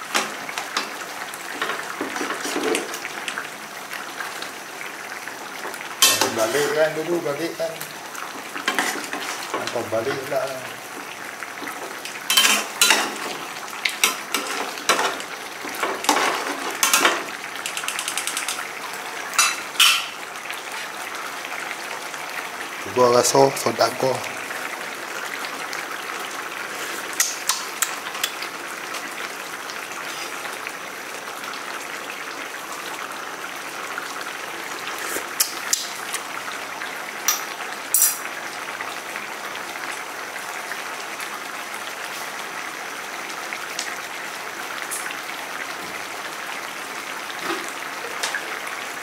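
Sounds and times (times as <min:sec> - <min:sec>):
curry bubbling in a pan: 0:00.0 - 0:49.0.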